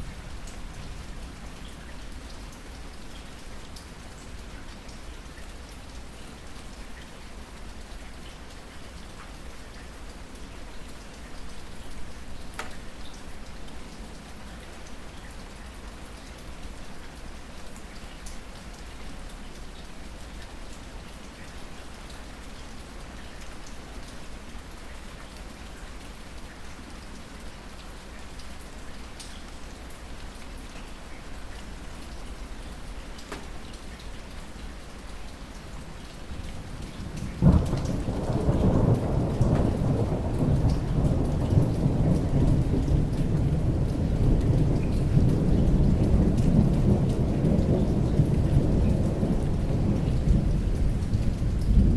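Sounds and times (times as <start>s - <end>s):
raindrops ticking close by: 0.0s - 51.9s
steady rain: 0.0s - 51.9s.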